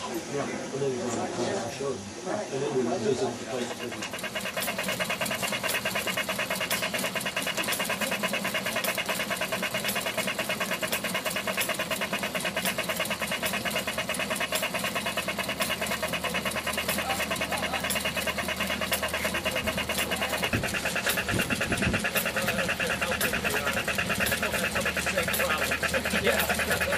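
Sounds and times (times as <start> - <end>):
model machinery clattering: 3.0 - 26.9.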